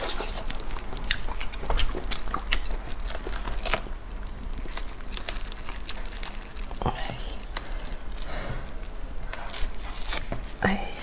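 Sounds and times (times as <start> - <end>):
wet clicks and crackles of husk: 0.0 - 10.6.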